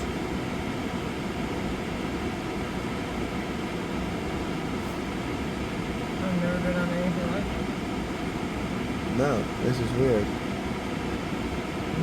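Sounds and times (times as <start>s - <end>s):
fan-like hiss: 0.0s - 12.0s.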